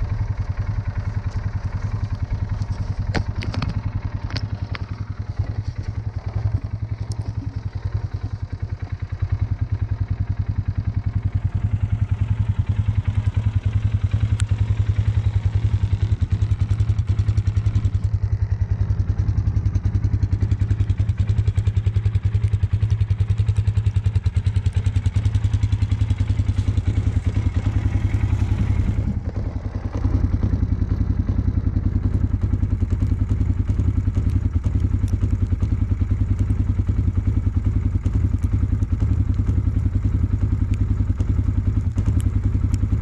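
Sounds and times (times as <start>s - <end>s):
atv engine running: 0.0s - 43.0s.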